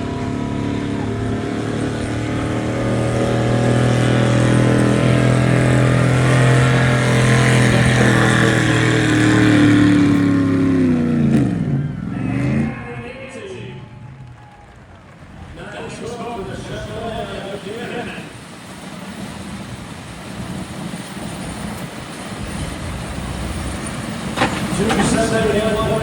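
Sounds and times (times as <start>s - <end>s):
pickup truck engine revving: 0.0s - 26.0s.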